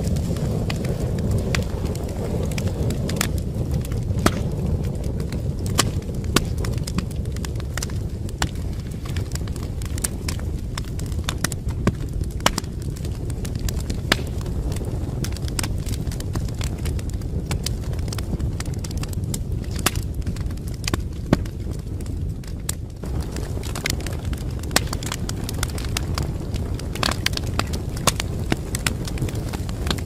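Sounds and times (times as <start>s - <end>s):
fire rumbling: 0.0s - 30.0s
logs crackling and popping: 0.0s - 30.0s.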